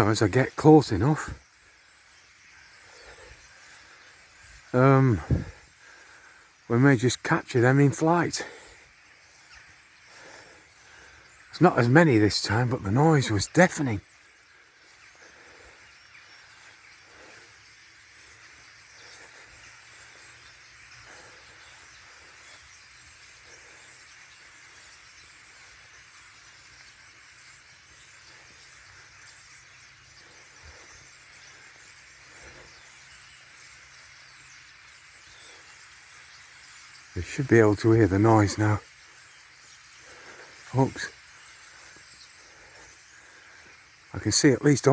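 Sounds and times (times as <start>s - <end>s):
huge flock of birds chattering: 0.0s - 44.9s.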